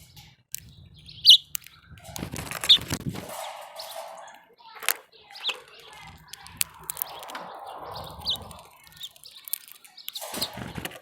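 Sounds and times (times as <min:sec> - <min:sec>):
sharp clicks: 0:00.0 - 0:11.0
small birds chirping: 0:00.0 - 0:11.0.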